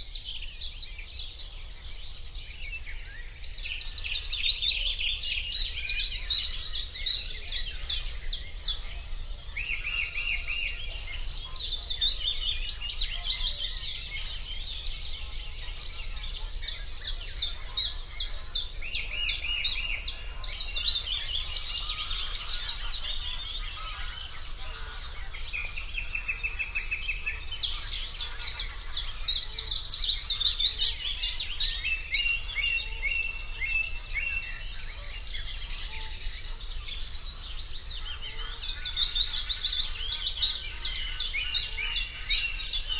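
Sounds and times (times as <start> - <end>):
bird song scratchy chattering: 3.0 - 42.9.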